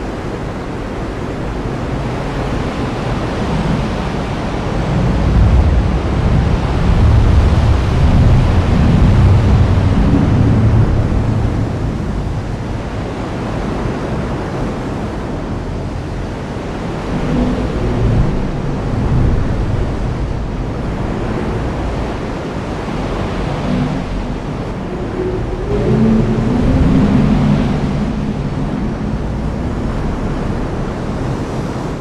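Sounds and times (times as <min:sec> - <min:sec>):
low rumbling: 0:00.0 - 0:32.0
heavy rain: 0:03.2 - 0:32.0.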